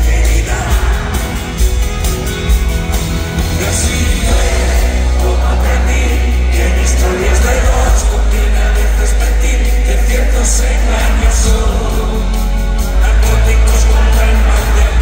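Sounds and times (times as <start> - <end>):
man singing lead: 0.0 - 1.9, 3.4 - 15.0
deep bass: 0.0 - 15.0
live band playing: 0.0 - 15.0.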